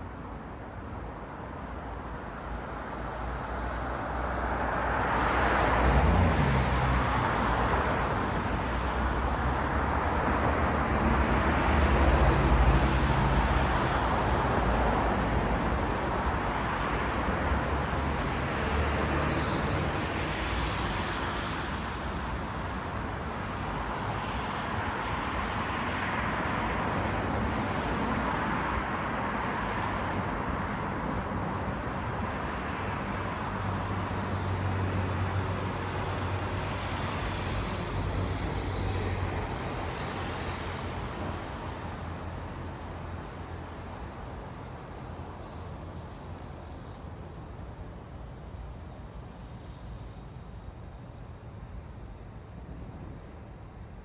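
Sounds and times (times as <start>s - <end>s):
vehicles passing: 3.7s - 21.3s, 27.1s - 54.0s.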